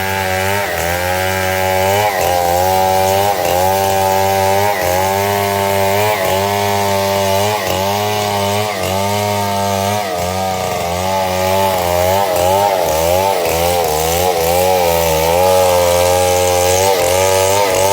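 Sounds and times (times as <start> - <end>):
chainsaw cutting wood: 0.0 - 17.9.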